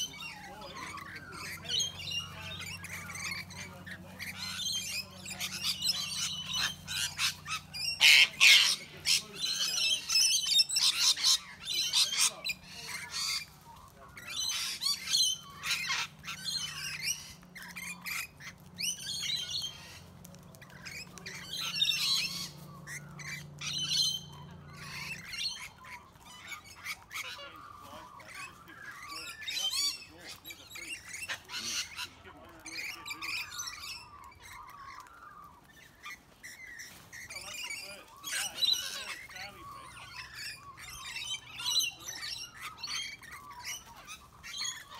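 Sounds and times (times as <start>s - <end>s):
harsh screeching calls: 0.0s - 20.1s, 20.7s - 44.9s
parrots squawking: 0.0s - 44.9s.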